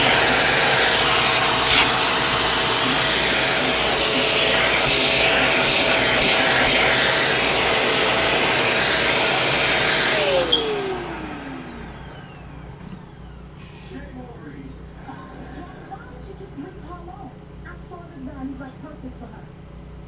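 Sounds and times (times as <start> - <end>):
vacuum cleaner running: 0.0 - 17.2.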